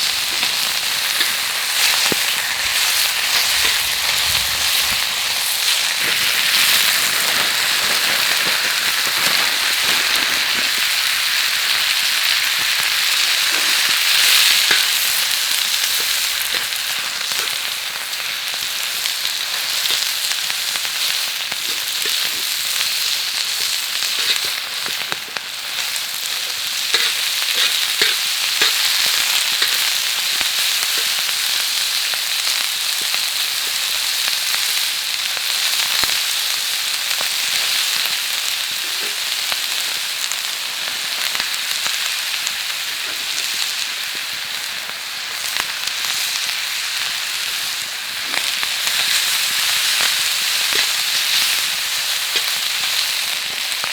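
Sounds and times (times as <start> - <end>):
noodles sizzling on a griddle: 0.0 - 53.9.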